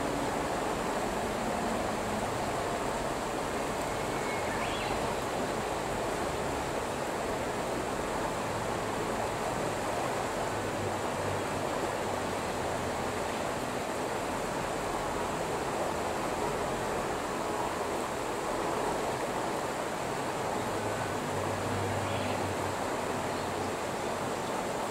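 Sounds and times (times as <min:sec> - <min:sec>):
stream running over rocks: 0:00.0 - 0:24.9.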